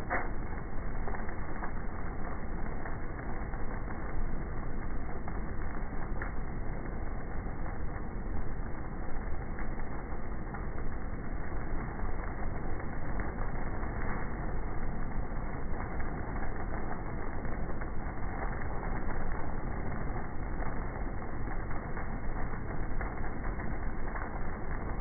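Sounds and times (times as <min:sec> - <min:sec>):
faint crackling ticks: 0:00.0 - 0:25.0
heavy rain: 0:00.0 - 0:25.0
wind: 0:00.0 - 0:25.0.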